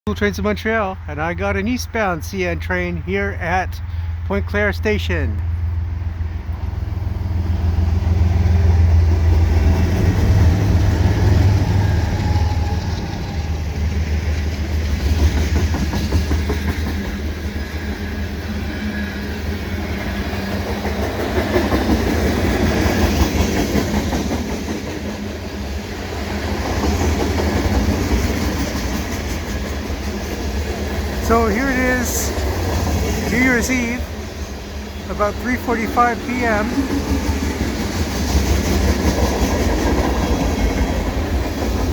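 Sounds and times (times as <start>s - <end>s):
diesel locomotive engine drone: 0.1s - 41.9s.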